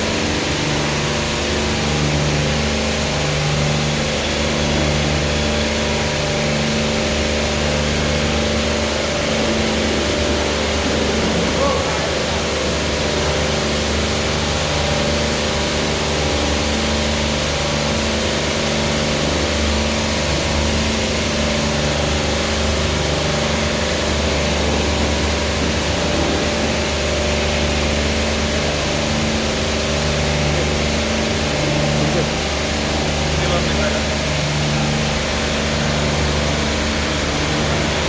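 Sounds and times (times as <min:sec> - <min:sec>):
high-pressure water jets spraying: 0:00.0 - 0:38.0
pump motor hum: 0:00.0 - 0:38.0.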